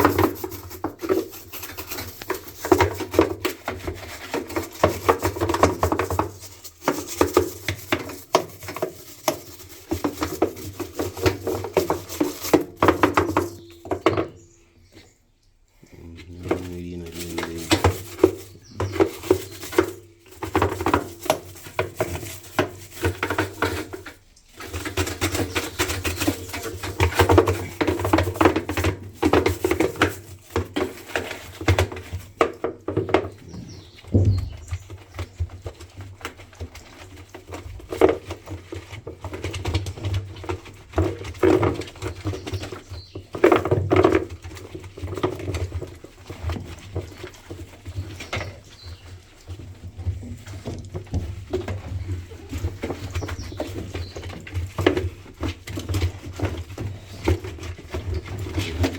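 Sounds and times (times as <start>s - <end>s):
scrubbing and knocking in washer tub: 0.0s - 14.6s, 15.8s - 58.9s.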